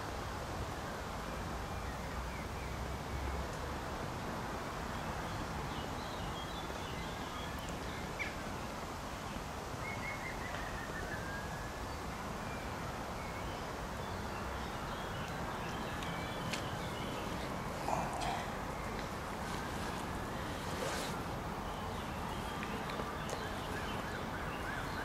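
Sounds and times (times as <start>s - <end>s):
outdoor background noise: 0.0s - 25.0s
small birds chirping: 4.8s - 25.0s.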